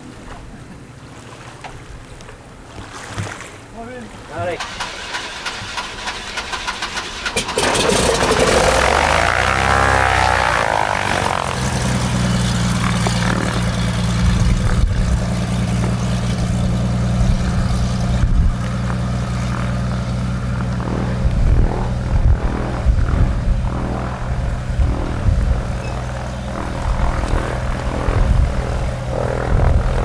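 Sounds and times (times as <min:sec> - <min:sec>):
floatplane engine droning: 0:00.0 - 0:30.0.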